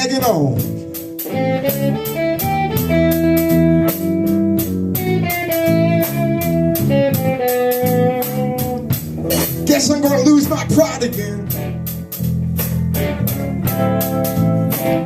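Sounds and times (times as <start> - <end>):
blues band playing: 0.0 - 15.0
guitar notes: 0.0 - 15.0.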